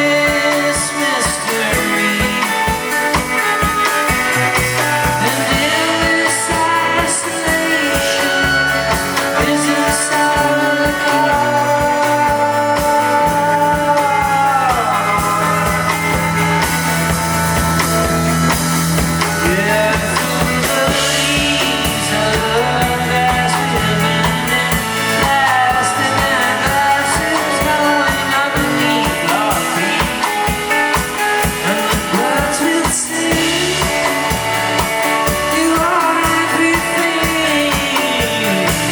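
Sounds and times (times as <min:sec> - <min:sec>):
drum kit beat: 0:00.0 - 0:38.9
guitar and bass: 0:00.0 - 0:38.9
person singing: 0:00.0 - 0:38.9.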